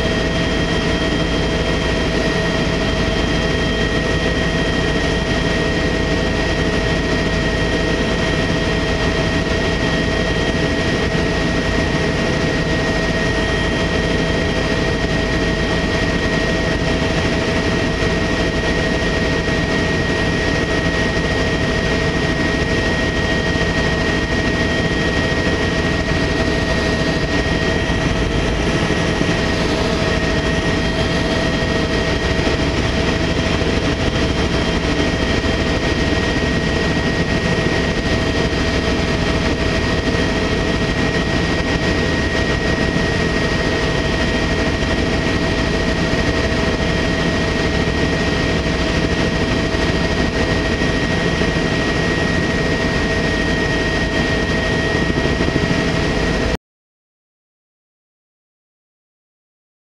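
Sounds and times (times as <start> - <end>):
helicopter engine and rotor: 0.0 - 56.6.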